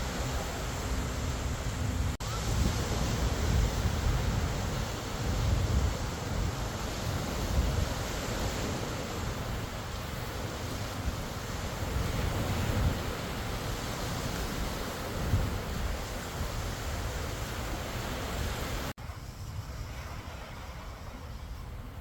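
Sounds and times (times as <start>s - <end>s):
sea surf washing in: 0.0s - 22.0s
wind buffeting microphone: 0.0s - 22.0s.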